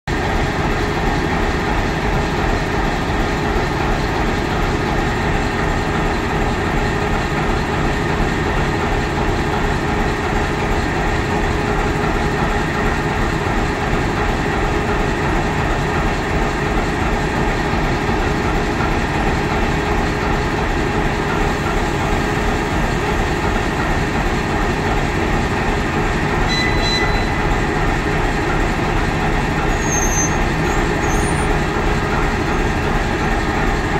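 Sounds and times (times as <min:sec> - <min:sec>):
diesel locomotive engine running: 0:00.1 - 0:33.9.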